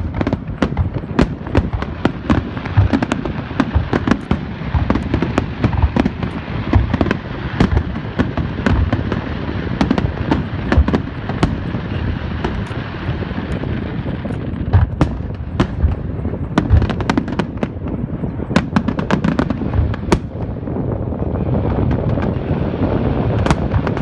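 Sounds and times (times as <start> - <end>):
fireworks booming and crackling: 0.0 - 24.0.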